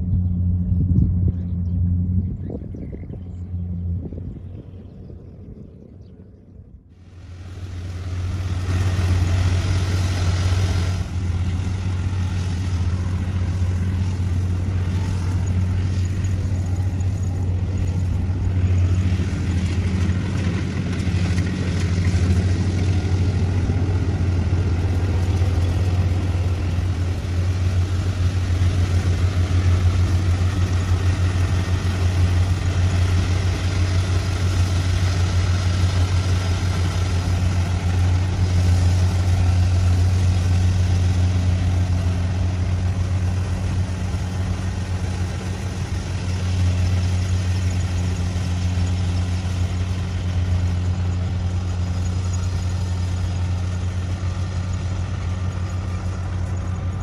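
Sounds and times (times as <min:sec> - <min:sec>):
heavy machine engine running: 0:07.0 - 0:57.0.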